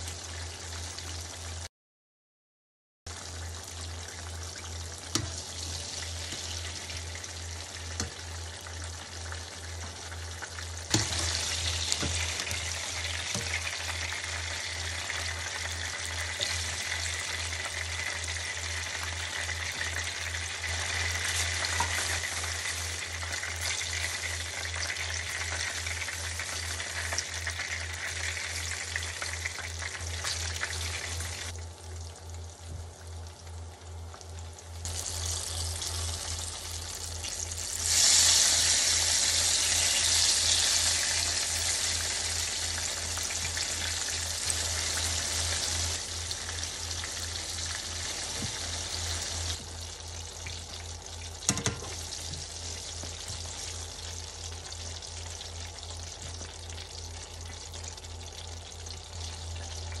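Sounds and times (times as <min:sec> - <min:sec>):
eggplant deep-frying in oil: 0:00.0 - 0:01.7, 0:03.1 - 1:00.0.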